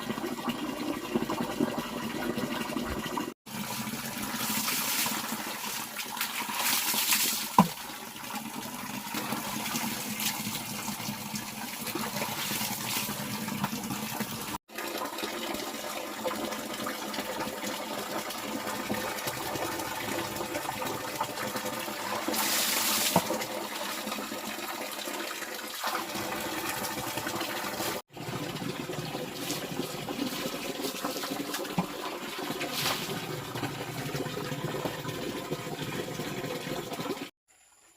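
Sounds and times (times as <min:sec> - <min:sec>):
water running and splashing: 0:00.9 - 0:37.3.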